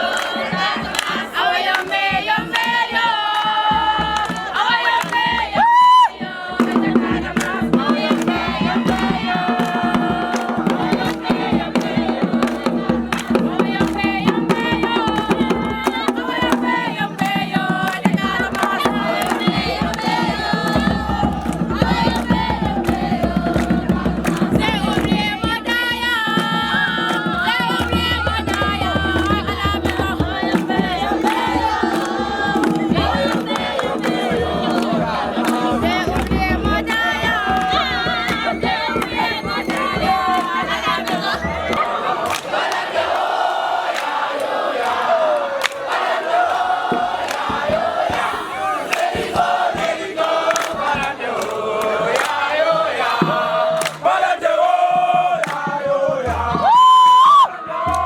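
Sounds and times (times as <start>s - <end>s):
clapping: 0.0s - 25.5s, 26.3s - 54.2s, 55.4s - 58.0s
crowd singing and chanting: 0.0s - 58.0s
percussion: 0.0s - 58.0s.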